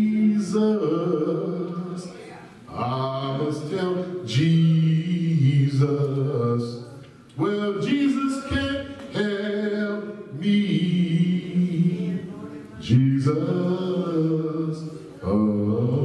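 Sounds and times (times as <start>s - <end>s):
men singing a hymn: 0.0s - 6.8s, 7.4s - 16.0s.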